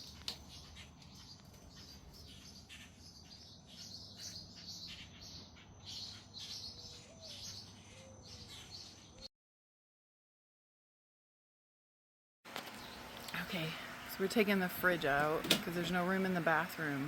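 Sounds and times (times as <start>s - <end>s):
small birds chirping: 0.0s - 9.3s, 12.6s - 17.0s.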